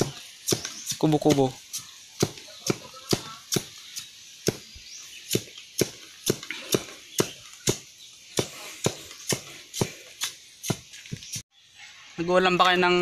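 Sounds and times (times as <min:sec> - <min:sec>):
machete chopping bamboo: 0:00.0 - 0:11.1.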